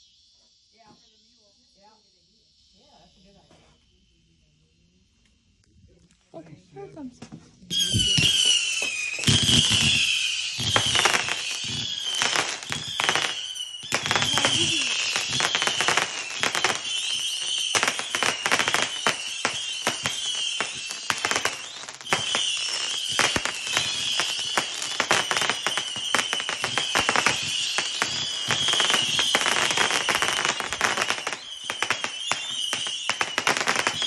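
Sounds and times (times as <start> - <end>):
firework whistles: 0.0 - 6.0, 6.8 - 34.0
firework crackling and popping: 5.2 - 34.0.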